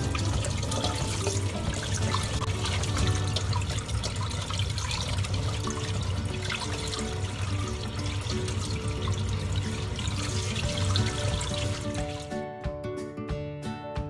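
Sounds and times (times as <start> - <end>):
tap running into pot of water: 0.0 - 12.3
fish rinsed by hand: 0.0 - 12.4.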